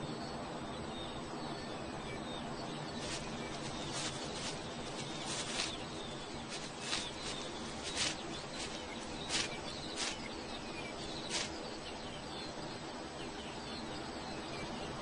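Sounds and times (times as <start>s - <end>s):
faint bird chirps: 0.0s - 15.0s
steady background hiss: 0.0s - 15.0s.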